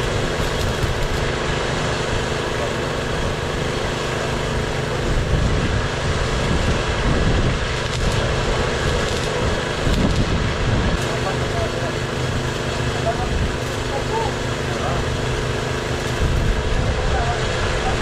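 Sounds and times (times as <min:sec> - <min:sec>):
engine running with steady hum: 0:00.0 - 0:18.0.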